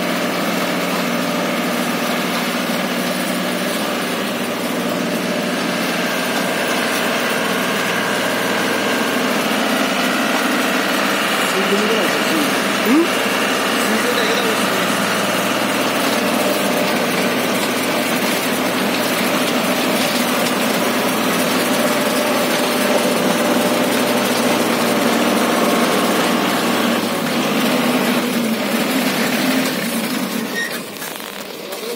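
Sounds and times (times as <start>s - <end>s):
disc harrow through soil: 0.0s - 31.9s
tractor engine running under load: 0.0s - 31.9s.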